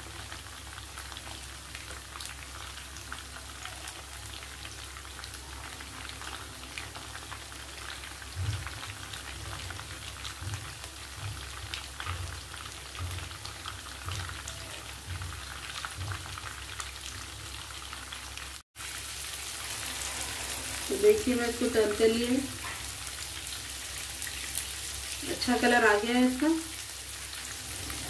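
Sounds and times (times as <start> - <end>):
meat sizzling in hot oil: 0.0 - 28.0.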